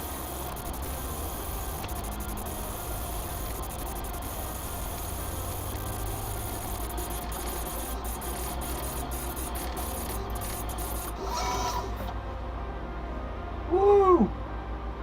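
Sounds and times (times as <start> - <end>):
stepper motors humming and stuttering: 0.0 - 12.1
high motor whine: 0.0 - 12.3.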